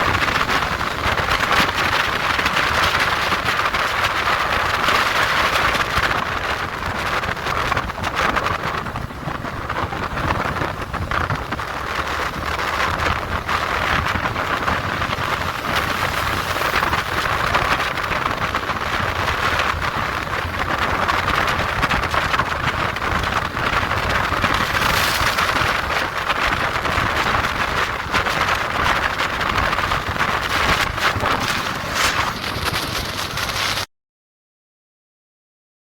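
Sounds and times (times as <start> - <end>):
motorcycle wind and road noise: 0.0 - 33.9
wind buffeting microphone: 0.0 - 33.9.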